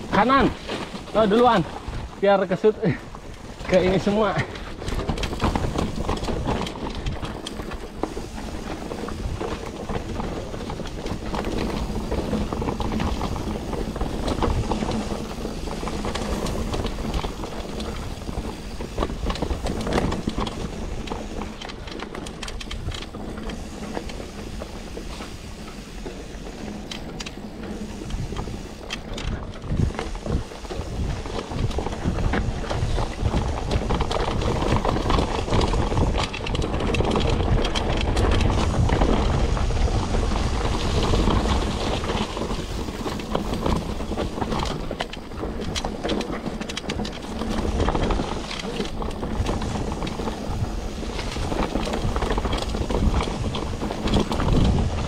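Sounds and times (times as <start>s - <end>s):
bike rattling clicks: 0.0s - 55.0s
tyres on rough ground: 0.0s - 55.0s.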